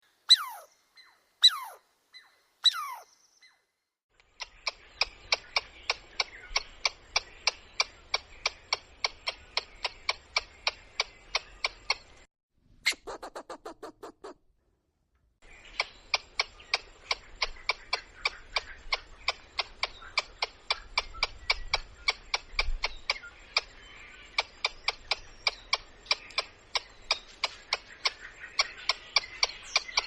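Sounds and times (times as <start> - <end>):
squirrel chirping: 0.3 - 3.6, 4.3 - 12.3, 15.7 - 30.0.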